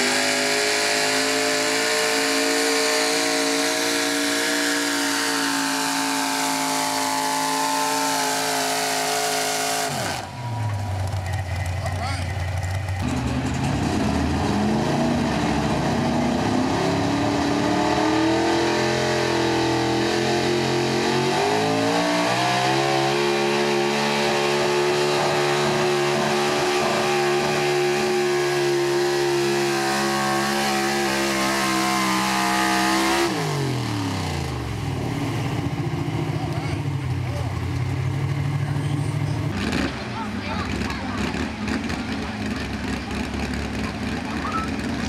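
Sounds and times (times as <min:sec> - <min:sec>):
truck engine at full throttle: 0:00.0 - 0:45.0.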